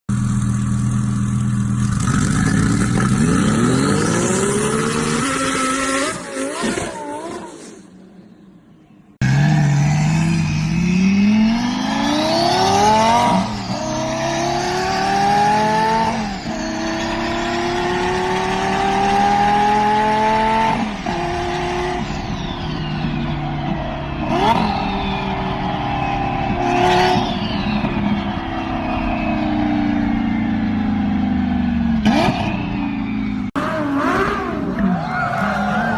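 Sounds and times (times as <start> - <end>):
sports car engines accelerating: 0.1 - 35.9.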